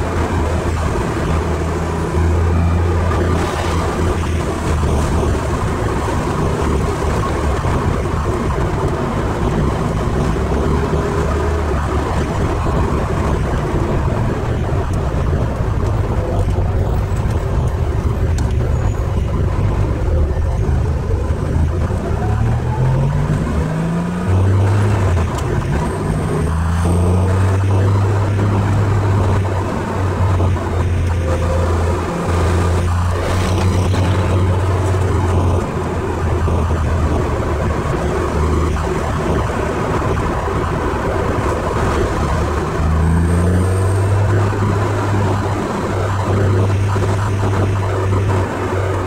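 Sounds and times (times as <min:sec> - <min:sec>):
road and wind noise: 0:00.0 - 0:49.0.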